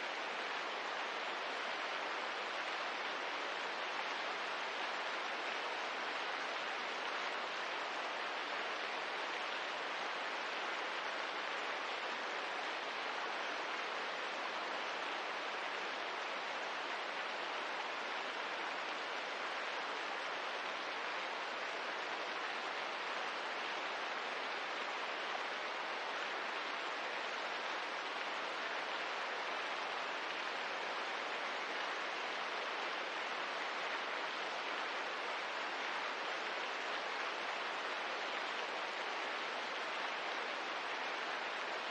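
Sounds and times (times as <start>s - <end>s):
steady rain hiss: 0.0s - 41.9s.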